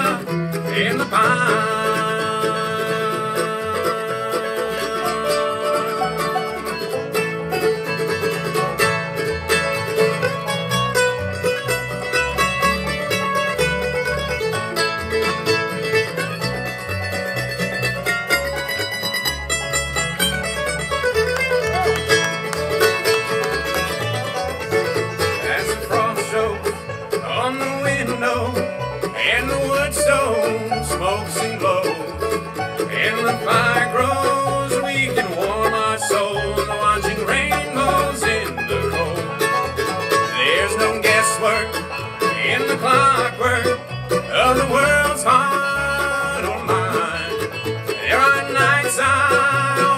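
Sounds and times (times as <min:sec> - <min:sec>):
bluegrass band playing: 0:00.0 - 0:49.9
fast banjo picking: 0:00.0 - 0:49.9.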